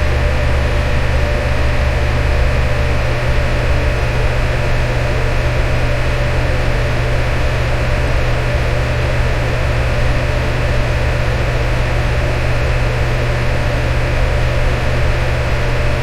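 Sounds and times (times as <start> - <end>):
electric fan running: 0.0 - 16.0.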